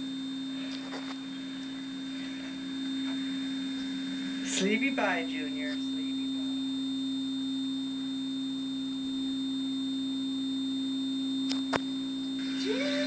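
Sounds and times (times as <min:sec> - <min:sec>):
low electronic tone: 0:00.0 - 0:13.0.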